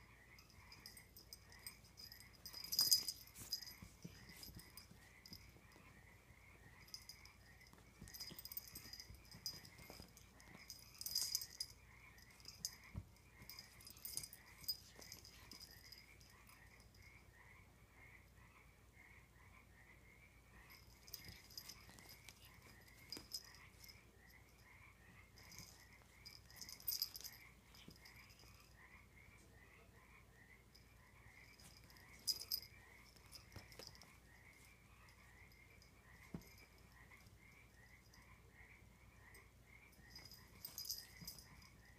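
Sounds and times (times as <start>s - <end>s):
light metallic jingle: 0.0s - 17.2s, 20.5s - 29.0s, 30.7s - 41.9s
faint steady chirping: 0.0s - 41.9s.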